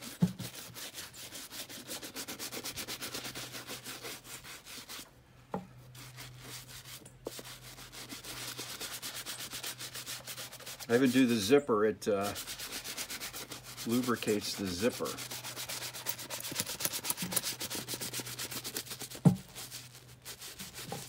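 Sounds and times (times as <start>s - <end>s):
brush scrubbing leather: 0.0s - 5.1s, 5.9s - 11.5s, 12.2s - 21.0s.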